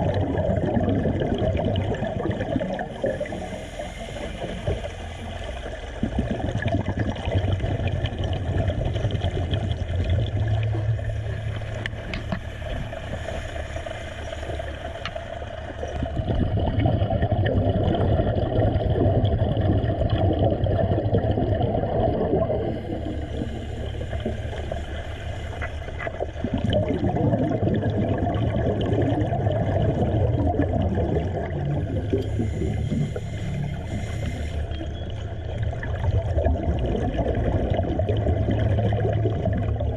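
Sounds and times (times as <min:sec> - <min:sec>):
low rumble: 0:00.0 - 0:39.9
underwater bubbling and gurgling: 0:00.0 - 0:39.9.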